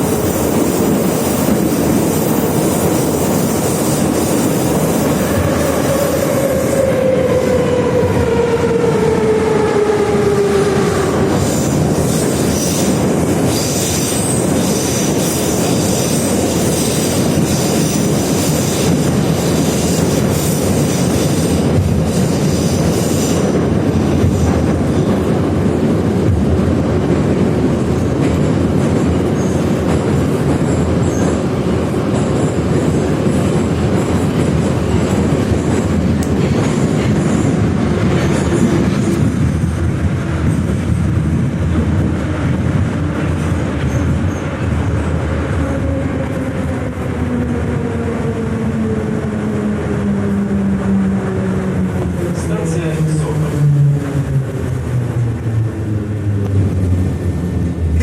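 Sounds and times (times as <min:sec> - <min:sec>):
metro train wheels rumbling: 0:00.0 - 0:58.0.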